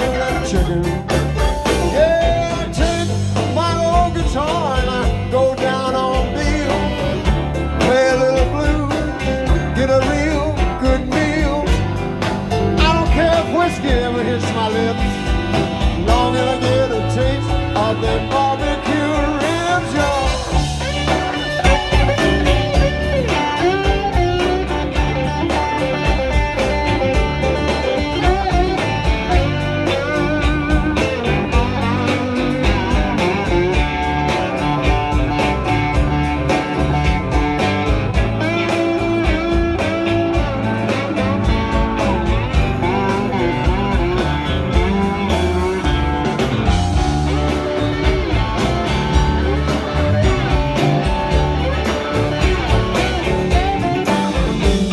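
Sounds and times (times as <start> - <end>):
bass guitar: 0.0 - 54.9
electric lead guitar bends: 0.0 - 54.9
steady drum beat: 0.0 - 54.9.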